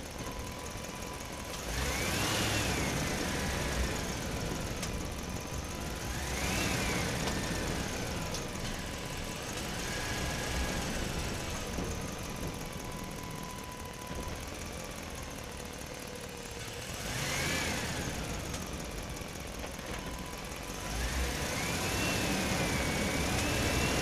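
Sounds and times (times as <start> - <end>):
truck engine revving: 0.0 - 15.4, 16.3 - 24.0.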